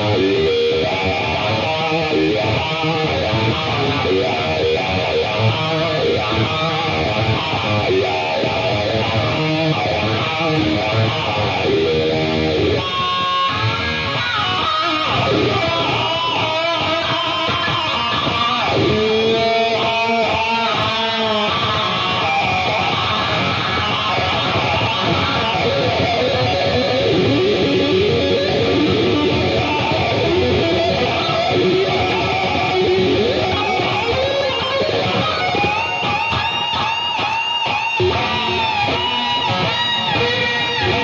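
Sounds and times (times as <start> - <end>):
electric guitar solo: 0.0 - 41.0.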